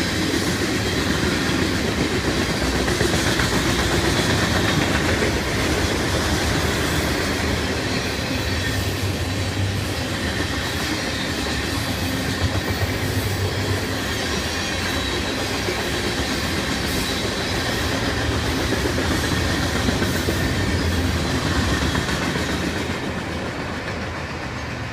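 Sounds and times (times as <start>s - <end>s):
freight train rumbling past: 0.0s - 24.9s
wheels clicking over rail joints: 0.0s - 24.9s.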